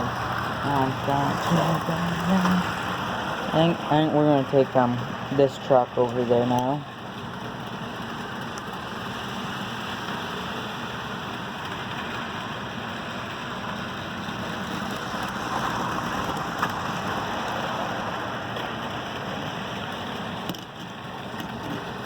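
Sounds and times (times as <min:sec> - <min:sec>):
model train whirring on rails: 0:00.0 - 0:22.0.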